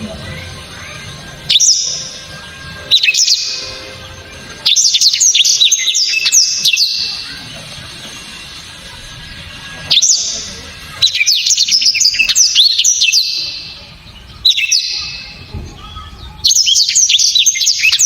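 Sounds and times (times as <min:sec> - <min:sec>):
canary singing whistled notes: 0:00.8 - 0:07.4, 0:09.8 - 0:18.0.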